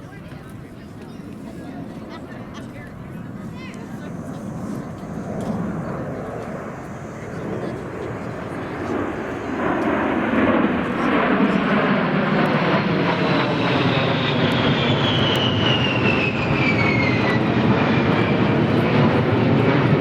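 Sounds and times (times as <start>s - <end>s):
airplane flying past: 0.0s - 20.0s.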